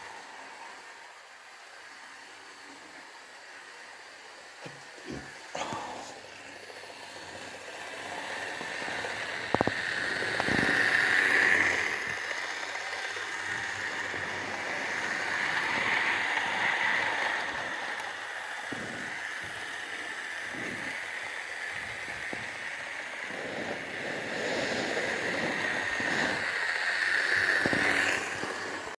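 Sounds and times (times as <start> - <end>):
model train motor whirring: 0.0 - 28.9.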